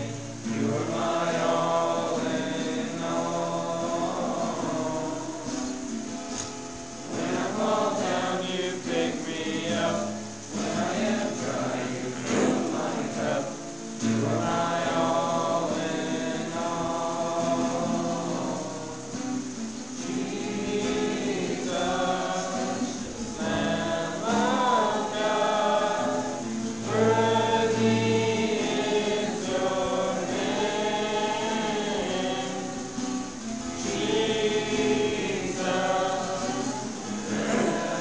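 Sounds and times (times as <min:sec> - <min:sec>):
group singing worship song: 0:00.0 - 0:38.0.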